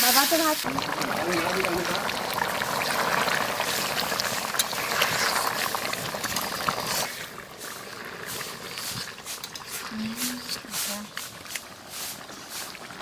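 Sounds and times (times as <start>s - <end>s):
thick gravy bubbling and spitting: 0.1s - 13.0s.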